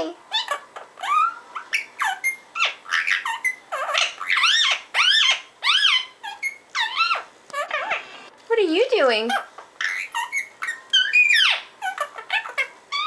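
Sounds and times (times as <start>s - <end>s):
parakeet chattering: 0.0s - 8.1s, 9.1s - 13.0s.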